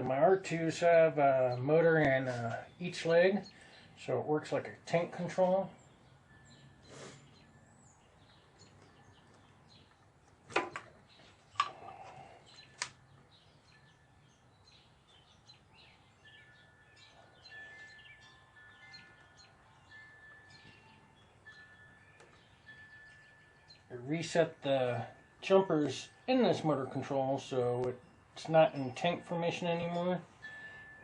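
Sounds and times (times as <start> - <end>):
faint birds chirping: 0.0 - 31.0.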